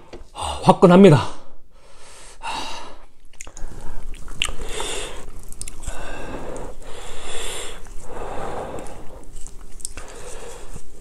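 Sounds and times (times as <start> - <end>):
man breathing hard: 1.4 - 9.3, 10.0 - 11.0.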